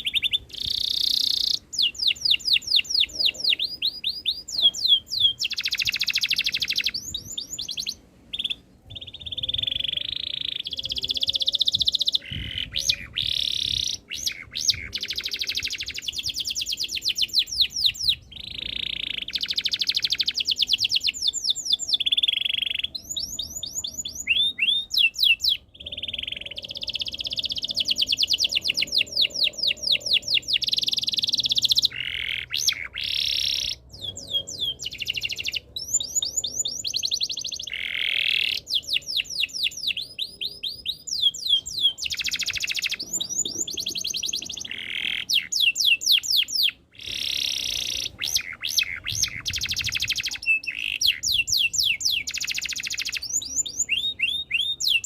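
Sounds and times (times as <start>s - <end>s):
canary singing fast trills: 0.0s - 55.0s.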